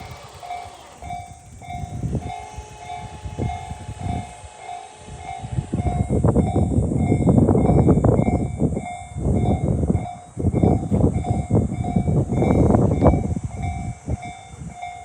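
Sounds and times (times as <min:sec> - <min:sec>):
train rumble and wheel clatter: 0:00.0 - 0:15.0.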